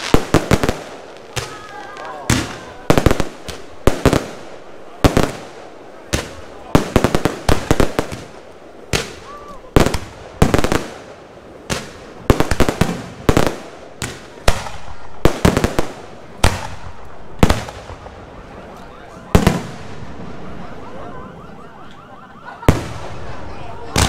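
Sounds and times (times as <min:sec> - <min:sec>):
firework crackling: 0:00.0 - 0:20.9.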